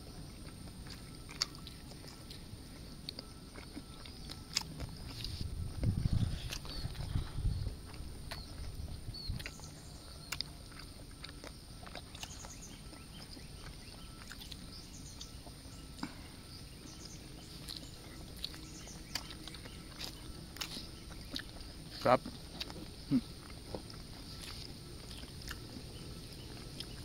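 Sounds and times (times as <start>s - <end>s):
faint outdoor background: 0.0s - 27.0s
people chewing food: 0.0s - 27.0s.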